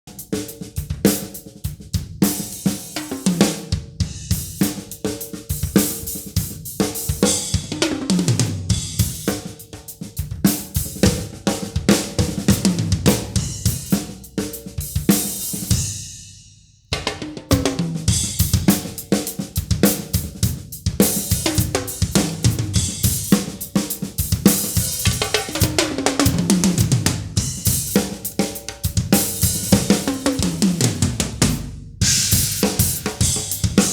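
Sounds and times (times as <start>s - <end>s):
drum kit playing: 0.0s - 33.9s.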